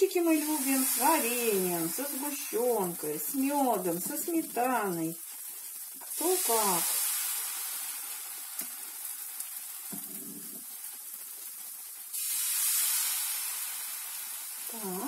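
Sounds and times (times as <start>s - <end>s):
pancake batter sizzling: 0.0s - 15.0s.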